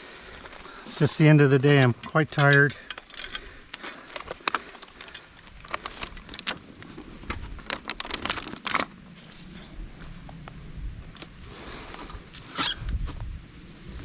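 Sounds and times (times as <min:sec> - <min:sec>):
thin high whine: 0:00.0 - 0:14.0.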